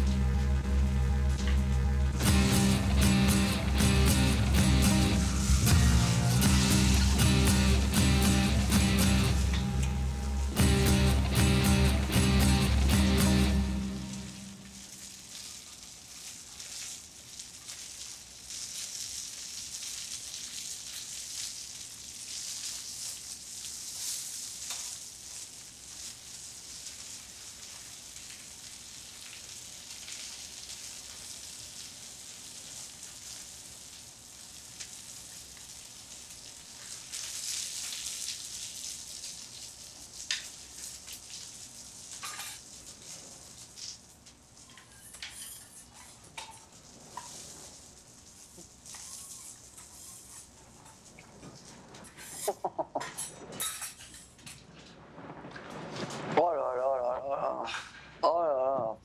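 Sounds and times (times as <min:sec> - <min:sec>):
steak sizzling on griddle: 0:02.2 - 0:52.6.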